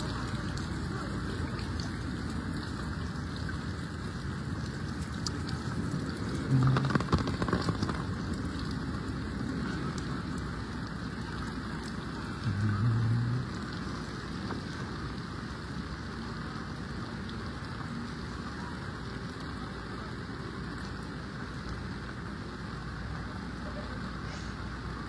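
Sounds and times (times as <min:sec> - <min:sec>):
rain and water hissing: 0:00.0 - 0:25.0.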